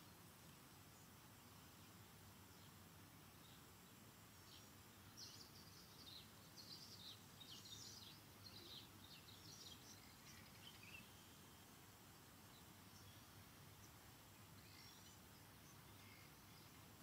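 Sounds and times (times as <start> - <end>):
faint birds chirping: 0.0 - 17.0
low steady hiss: 0.0 - 17.0.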